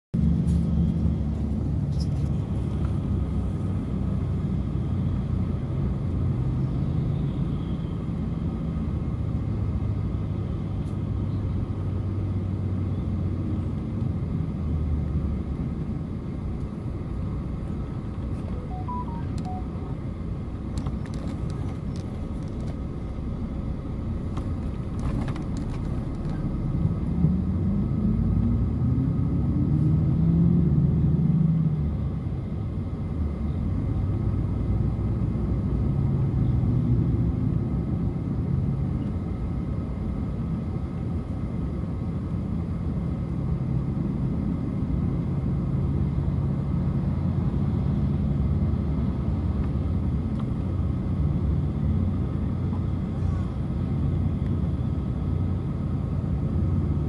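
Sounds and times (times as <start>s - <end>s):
vehicle engine and road rumble: 0.1s - 57.0s.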